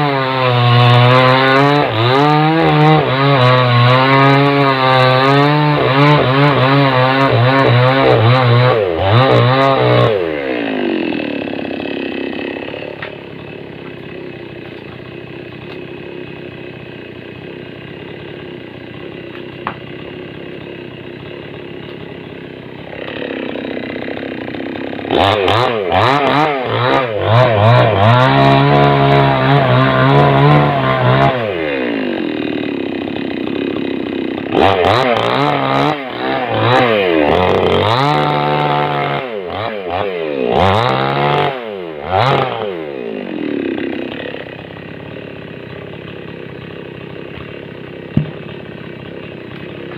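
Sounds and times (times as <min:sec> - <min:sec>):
chainsaw cutting log: 0:00.0 - 0:49.9.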